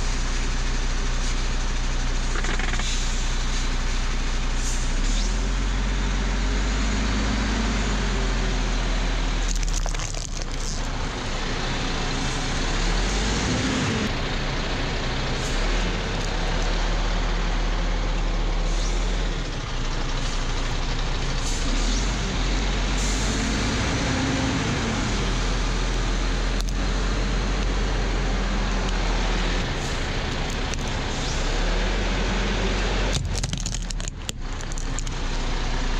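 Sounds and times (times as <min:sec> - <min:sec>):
truck engine rumbling: 0:00.0 - 0:35.9.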